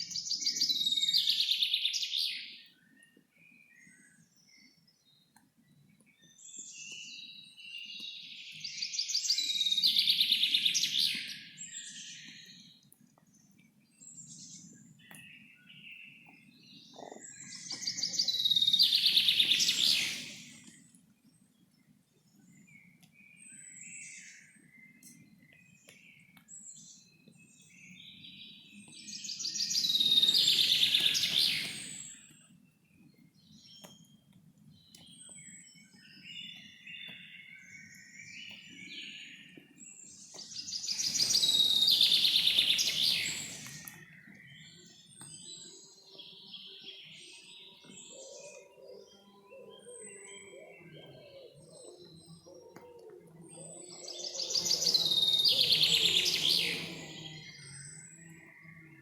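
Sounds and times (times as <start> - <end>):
birds singing and chirping: 0.0 - 59.0
high trilling birdsong: 5.7 - 34.2, 34.8 - 59.0.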